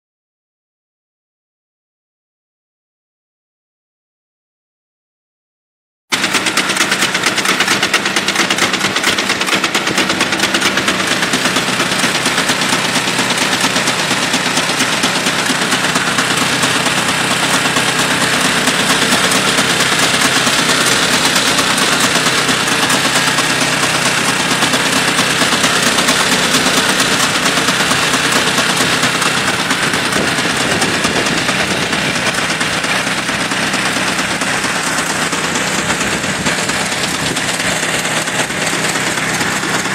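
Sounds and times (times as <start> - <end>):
engine fast even rattle: 6.1 - 39.9.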